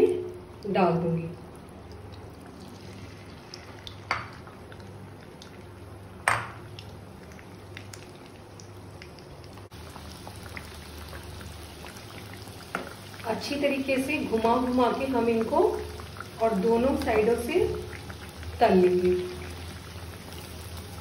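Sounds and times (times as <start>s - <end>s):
low steady hum: 0.0s - 21.0s
hot oil sizzling and crackling: 1.6s - 21.0s.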